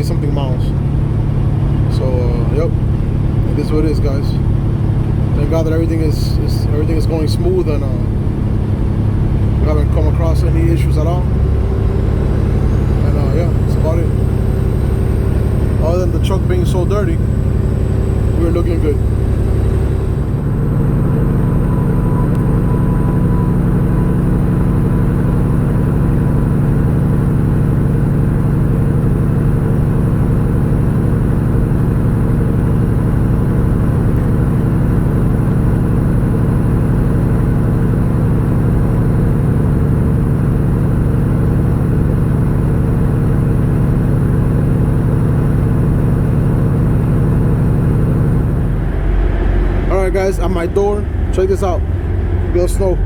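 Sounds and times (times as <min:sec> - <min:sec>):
truck engine and road noise: 0:00.0 - 0:53.0.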